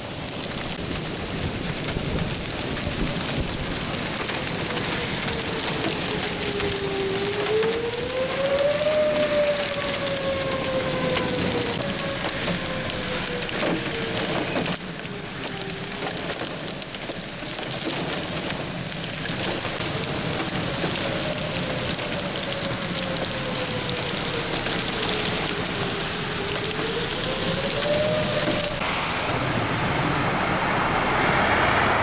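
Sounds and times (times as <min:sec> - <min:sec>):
torrential rain pouring: 0:00.0 - 0:32.0.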